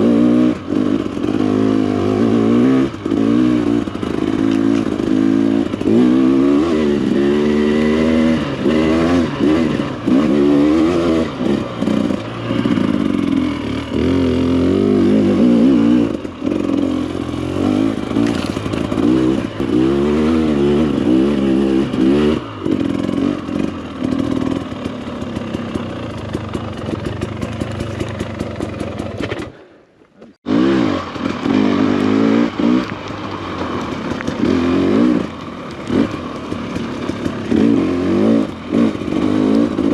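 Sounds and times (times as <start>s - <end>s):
dirt bike engine revving: 0.0s - 29.6s, 30.4s - 39.9s.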